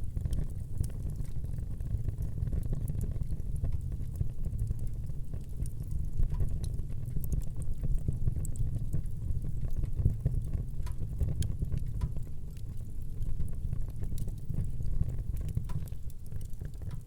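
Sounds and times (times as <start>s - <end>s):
low rumble of fire flame: 0.0s - 17.0s
wood crackling and popping: 0.0s - 17.0s.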